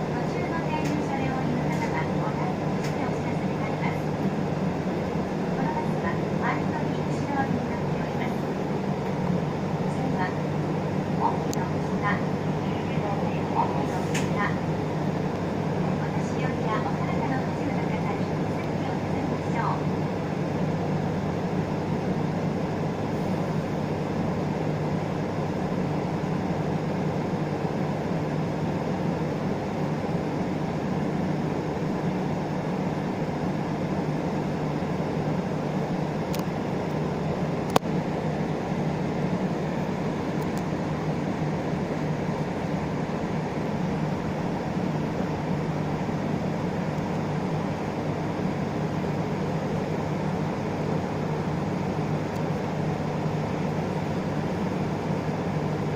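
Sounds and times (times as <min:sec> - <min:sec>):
bus diesel engine running: 0:00.0 - 0:55.9.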